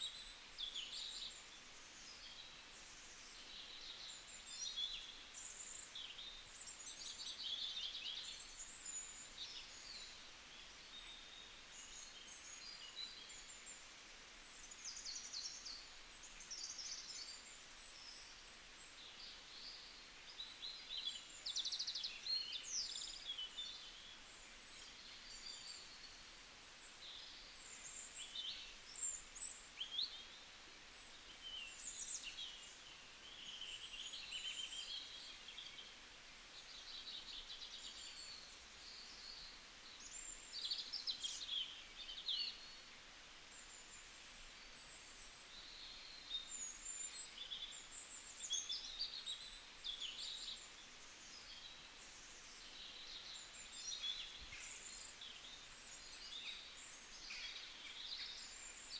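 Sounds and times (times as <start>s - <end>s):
faint background hiss: 0.0s - 58.9s
songbirds chirping: 0.0s - 58.9s.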